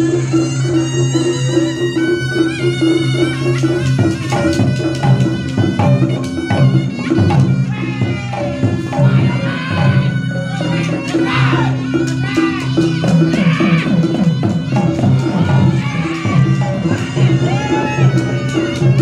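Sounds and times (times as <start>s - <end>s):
reedy shawm melody: 0.0s - 19.0s.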